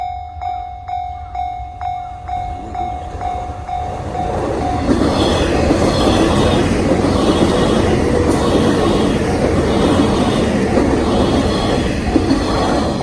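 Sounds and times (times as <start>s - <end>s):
train passing loudly: 0.3s - 13.0s.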